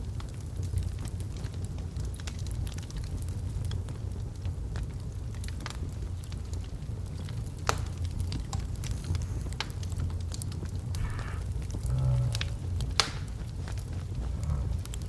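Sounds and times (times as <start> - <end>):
fire crackling and popping: 0.0 - 15.0
fire rumbling: 0.0 - 15.0
fire hissing: 0.3 - 15.0.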